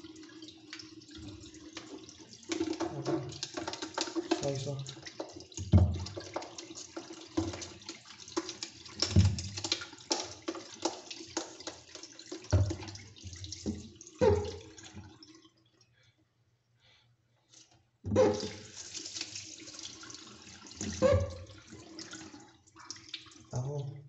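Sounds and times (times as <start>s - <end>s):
running water splashing: 0.0s - 15.6s, 18.1s - 23.8s.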